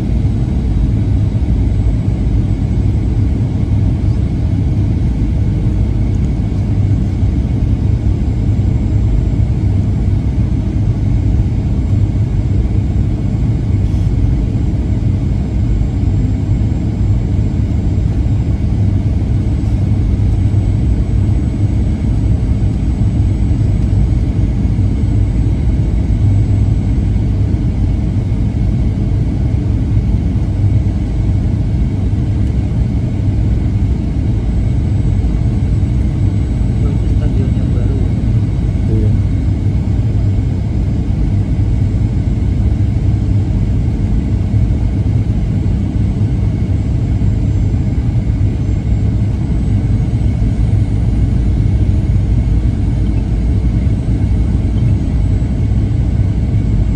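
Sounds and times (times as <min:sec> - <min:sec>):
aircraft cabin engine rumble: 0:00.0 - 0:56.9.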